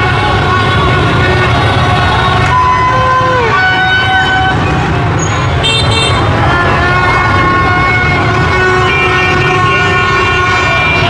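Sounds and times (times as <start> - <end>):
horns tooting: 0.0 - 11.0
motorbike and car traffic: 0.0 - 11.0.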